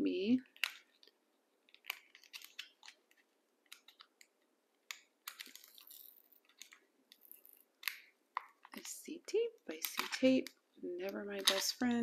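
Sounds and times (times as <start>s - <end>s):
packaging crinkling and clicking: 0.5s - 8.9s, 9.7s - 12.0s.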